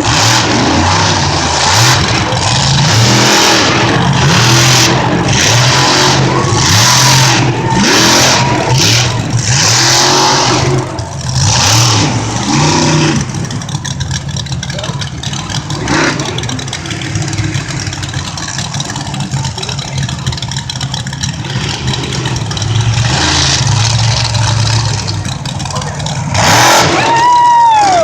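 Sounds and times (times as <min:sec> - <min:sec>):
truck engine revving hard: 0:00.0 - 0:28.0.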